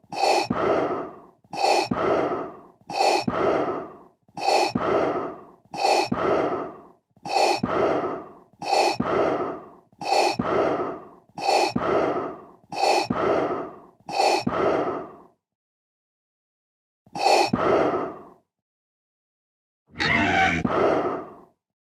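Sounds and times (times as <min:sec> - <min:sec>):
respirator breathing: 0:00.0 - 0:15.4, 0:17.2 - 0:18.4, 0:20.0 - 0:21.6.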